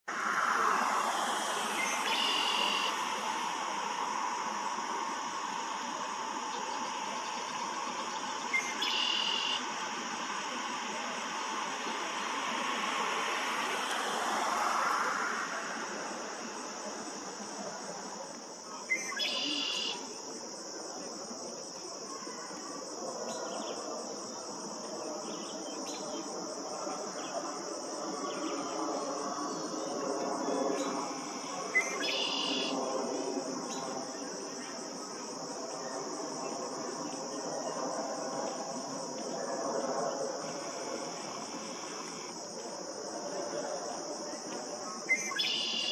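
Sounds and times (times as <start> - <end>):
high insect drone: 0.1 - 45.9.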